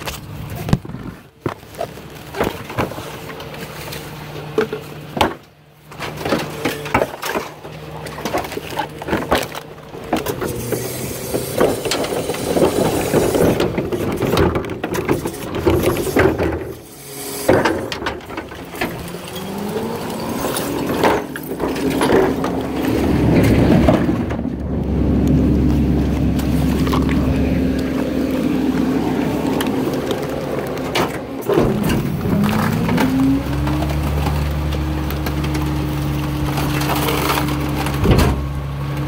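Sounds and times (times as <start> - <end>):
garbage truck engine running: 0.0 - 39.0
trash knocks and bangs: 0.0 - 39.0.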